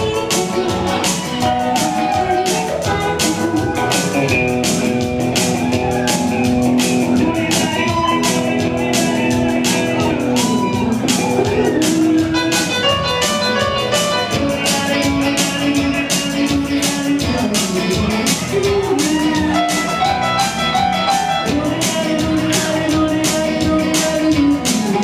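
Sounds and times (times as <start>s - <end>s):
drum kit beat: 0.0s - 25.0s
electric guitar: 0.0s - 25.0s
keyboard: 0.0s - 25.0s
live band music: 0.0s - 25.0s
man singing: 0.0s - 25.0s.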